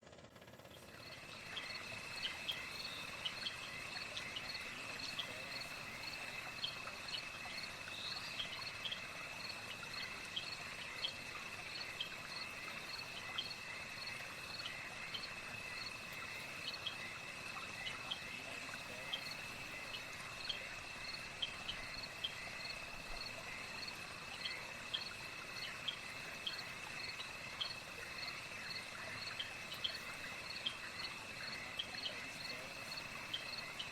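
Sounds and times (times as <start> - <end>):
insects trilling: 0.6 - 33.9
high cricket chirps: 0.8 - 33.9.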